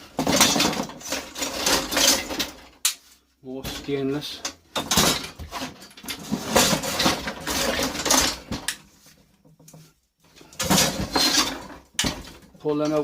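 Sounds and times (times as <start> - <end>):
metal parts clattering and clinking: 0.0 - 2.8, 3.6 - 8.9, 10.4 - 13.0.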